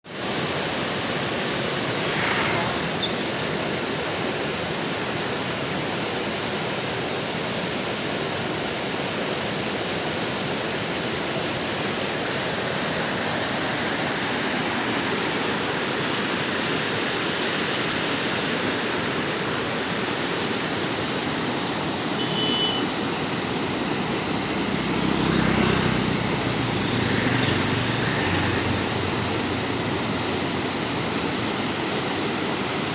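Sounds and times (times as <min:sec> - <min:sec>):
running water rushing: 0:00.1 - 0:32.9.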